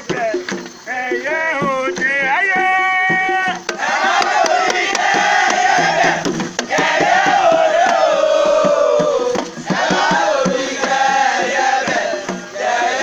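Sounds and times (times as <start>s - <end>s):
chorus chanting: 0.0s - 13.0s
sharp percussion strokes: 0.0s - 13.0s.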